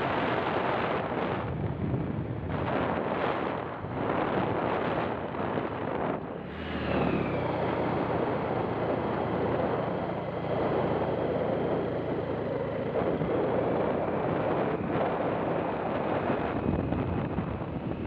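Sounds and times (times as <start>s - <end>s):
motorcycle engine: 0.0s - 18.0s
wind rushing on microphone: 0.0s - 18.0s.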